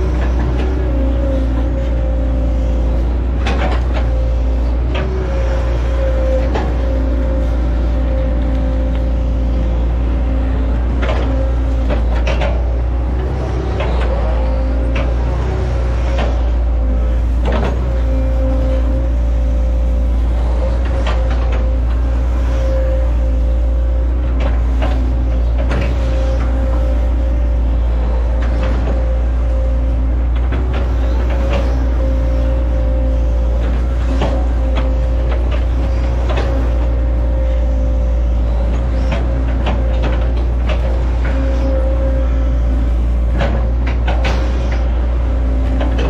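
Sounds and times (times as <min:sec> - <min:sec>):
excavator diesel engine whining: 0:00.0 - 0:46.0.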